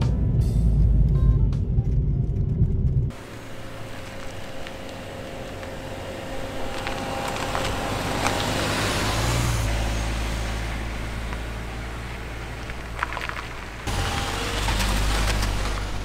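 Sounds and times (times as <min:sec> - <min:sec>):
car driving past: 0:03.1 - 0:16.0.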